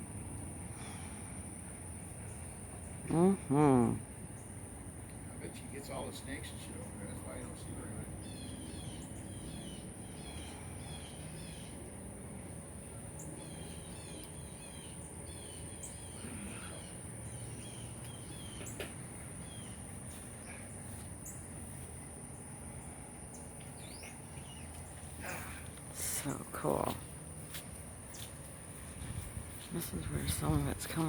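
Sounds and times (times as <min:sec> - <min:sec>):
songbird chirping: 0:04.2 - 0:12.1, 0:12.8 - 0:31.0.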